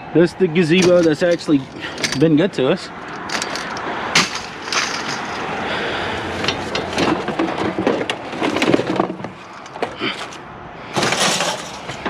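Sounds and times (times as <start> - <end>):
scraping rustling noise: 0.7 - 12.0
scrap knocking and clattering: 0.8 - 2.4, 3.0 - 10.4, 11.0 - 12.0.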